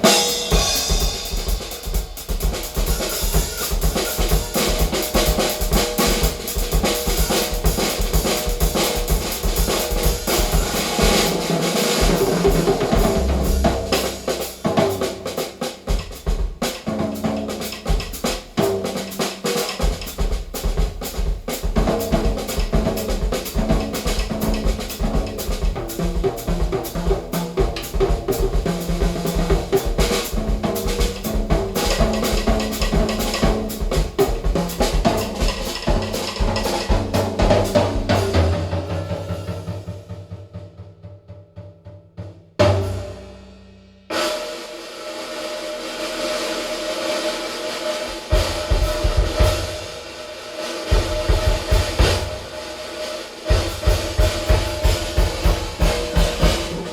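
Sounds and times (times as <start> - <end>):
drum track through speakers: 0.0 - 40.3, 48.0 - 50.2, 50.8 - 56.9.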